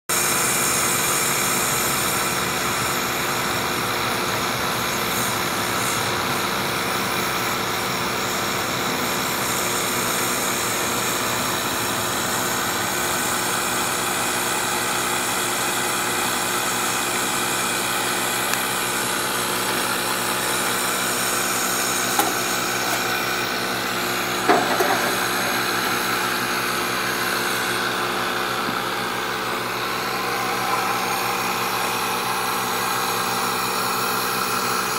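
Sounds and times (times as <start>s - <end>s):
mechanical hum with rushing hiss: 0.2s - 34.9s.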